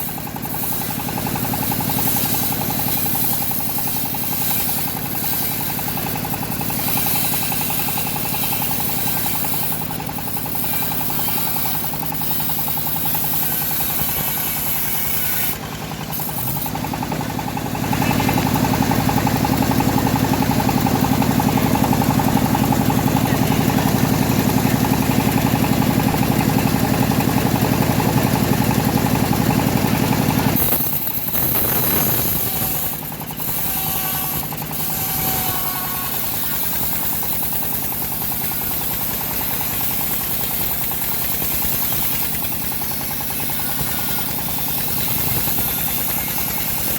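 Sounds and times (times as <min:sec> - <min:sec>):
band sawmill sawing wood: 0:00.0 - 0:46.9.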